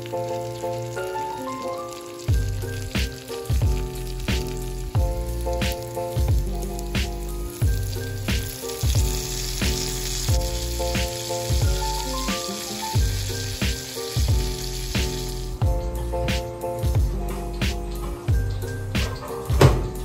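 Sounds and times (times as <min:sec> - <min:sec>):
chicken sizzling in a pan: 0:00.0 - 0:17.5
background music with a beat: 0:00.0 - 0:20.0.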